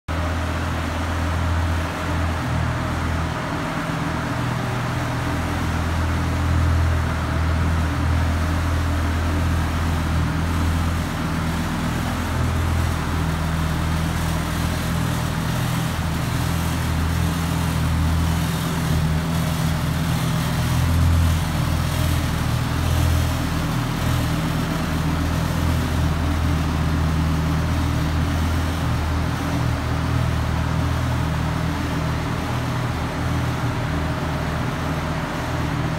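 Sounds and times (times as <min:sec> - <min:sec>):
car engine idling: 0:00.1 - 0:35.9.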